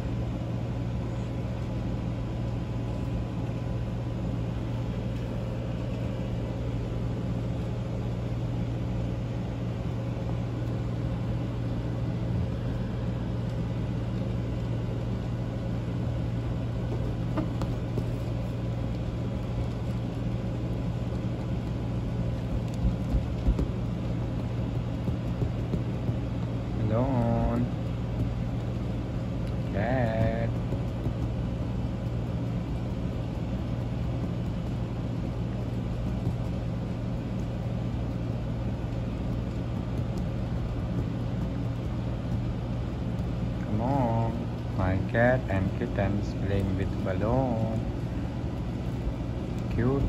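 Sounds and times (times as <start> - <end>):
faint constant whine: 0.0 - 50.0
low mechanical hum: 0.0 - 50.0.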